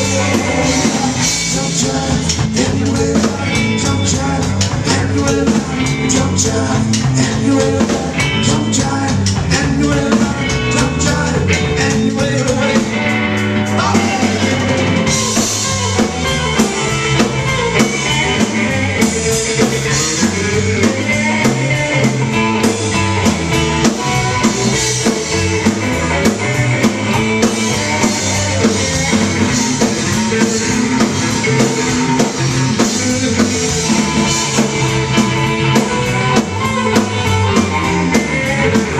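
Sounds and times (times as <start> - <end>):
drum kit: 0.0 - 38.9
electric guitars: 0.0 - 38.9
man singing: 0.0 - 38.9.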